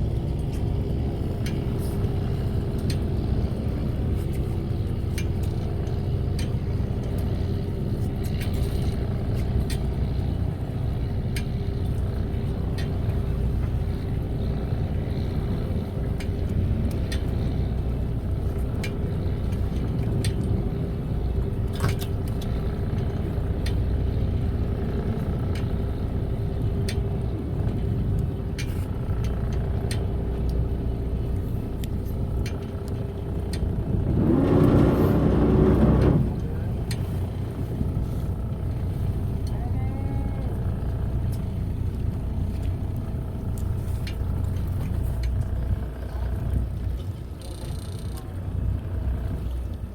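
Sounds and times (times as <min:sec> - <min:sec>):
boat engine rumbling: 0:00.0 - 0:49.9
light clicks and taps: 0:00.4 - 0:38.1, 0:40.4 - 0:48.8.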